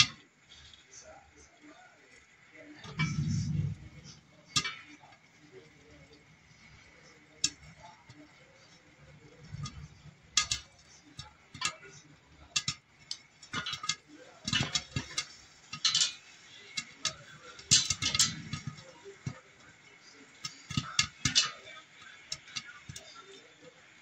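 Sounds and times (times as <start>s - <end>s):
popcorn popping in a pot: 0.0s - 24.0s.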